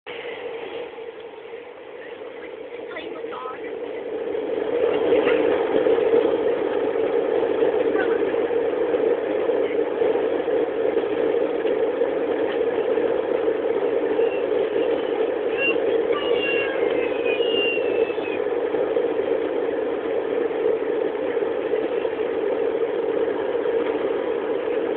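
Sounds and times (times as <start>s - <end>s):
jet engines rushing in cabin: 0.1s - 24.9s.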